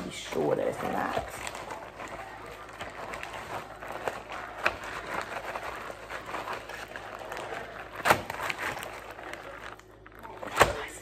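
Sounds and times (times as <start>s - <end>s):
plastic bag crack: 0.0s - 11.0s
plastic bag crinkling: 0.0s - 11.0s.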